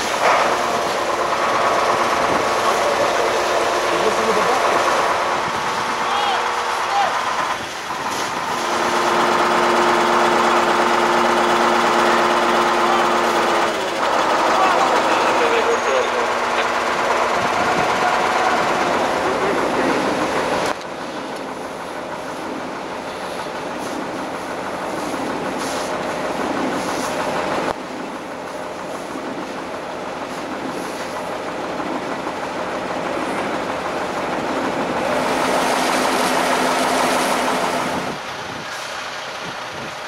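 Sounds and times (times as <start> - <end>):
diesel engines running: 0.0 - 40.0.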